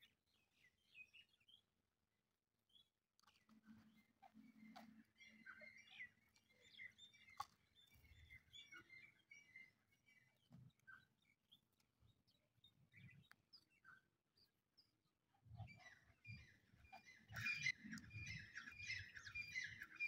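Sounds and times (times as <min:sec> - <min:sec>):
faint bird chirping: 0:00.0 - 0:01.7, 0:02.7 - 0:20.0.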